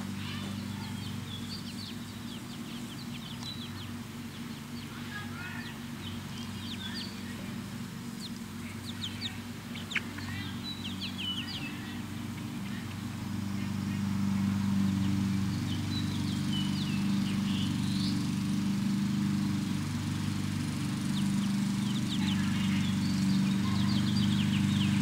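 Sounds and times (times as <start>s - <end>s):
chicks cheeping: 0.0s - 25.0s.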